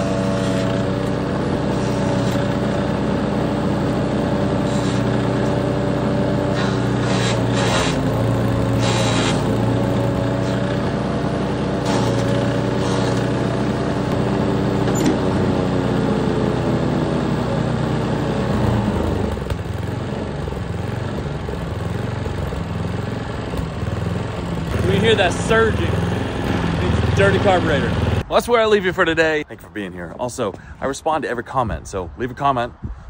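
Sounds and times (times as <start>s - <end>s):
chipper engine running: 0.0s - 28.4s.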